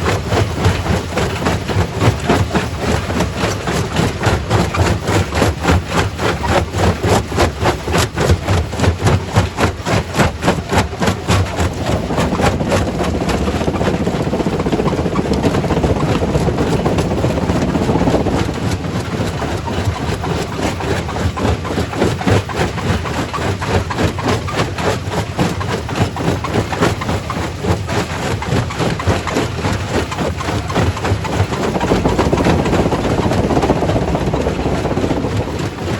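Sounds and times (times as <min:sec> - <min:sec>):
dense rushing noise: 0:00.0 - 0:22.5, 0:28.4 - 0:35.9.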